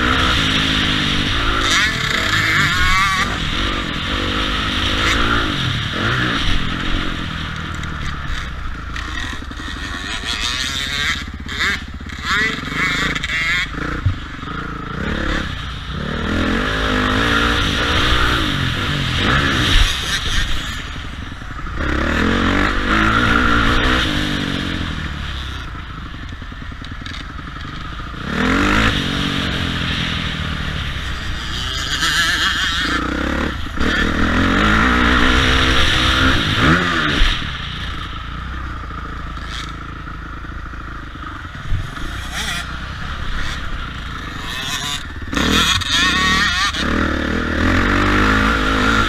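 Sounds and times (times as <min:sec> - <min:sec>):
motocross bike engines revving: 0:00.0 - 0:49.0.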